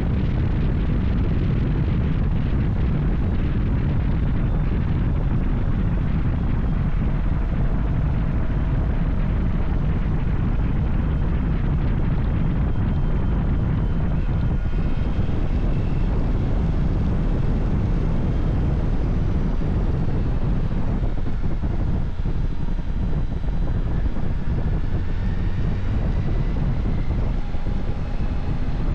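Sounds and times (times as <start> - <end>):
motorcycle engine drone: 0.0 - 28.9
wind rush on microphone: 0.0 - 28.9.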